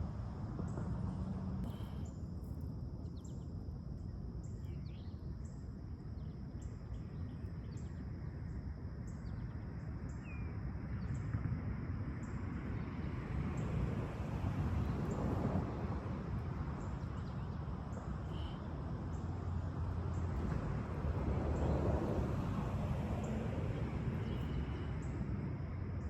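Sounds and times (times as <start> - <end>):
high insect hum: 0.0 - 26.0.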